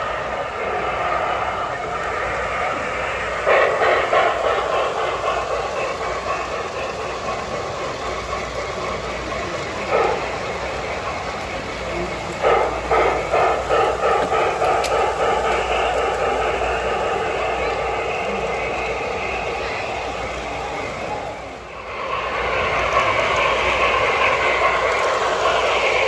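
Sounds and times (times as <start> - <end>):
model train rumbling: 0.0 - 26.0
murmur of crowd in hall: 0.0 - 26.0
rapid clicking: 0.0 - 26.0.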